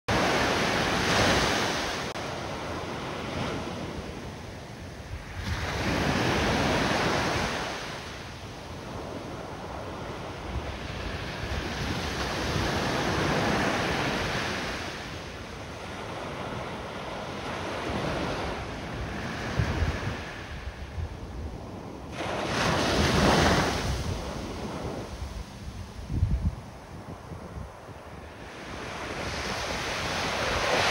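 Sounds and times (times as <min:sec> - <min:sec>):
ocean surf breaking on beach: 0:00.1 - 0:30.9.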